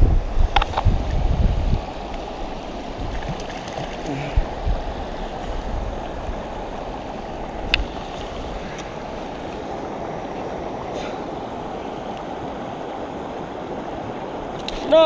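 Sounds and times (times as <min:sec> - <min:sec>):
river rushing over rocks: 0:00.1 - 0:15.0.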